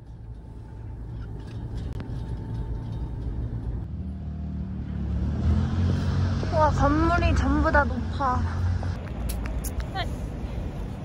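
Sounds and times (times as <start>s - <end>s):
street traffic: 0.0s - 11.0s
train rumbling: 0.0s - 11.0s
vehicle engine running close by: 1.1s - 10.8s.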